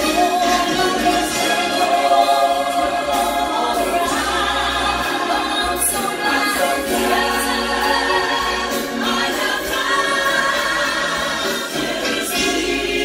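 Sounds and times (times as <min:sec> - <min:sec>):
choir singing gospel: 0:00.0 - 0:13.0
soloists singing into microphones: 0:00.0 - 0:13.0.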